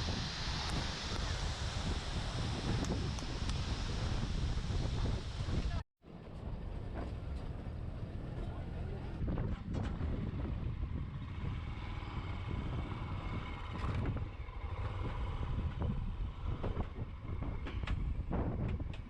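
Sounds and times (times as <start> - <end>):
motorcycle engine rumble: 0.0 - 19.0
wind noise on microphone: 0.0 - 19.0.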